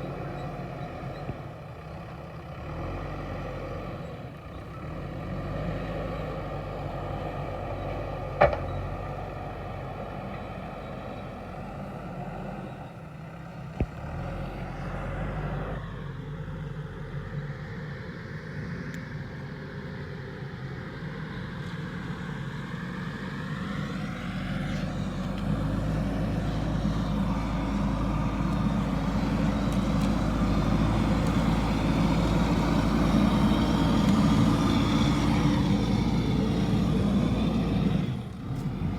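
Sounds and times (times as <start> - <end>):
diesel engine working: 0.0 - 38.9.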